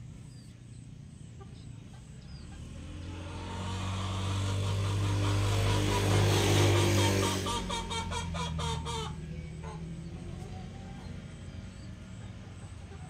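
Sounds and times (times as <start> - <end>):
motor vehicle approaching: 0.0 - 13.0.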